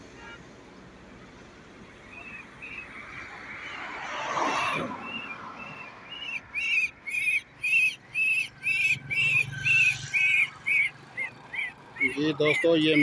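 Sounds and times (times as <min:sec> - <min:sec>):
bird distress calls: 0:02.0 - 0:13.0.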